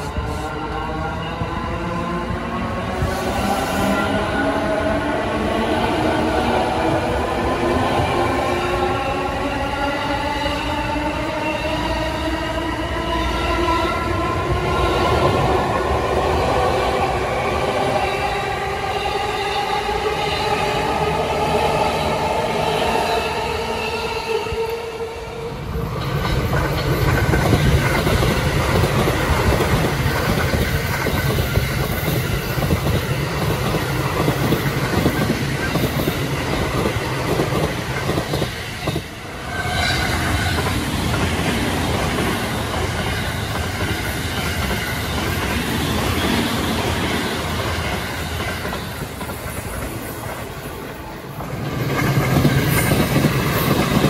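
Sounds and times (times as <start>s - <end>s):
electric train rumbling on rails: 0.0s - 54.0s.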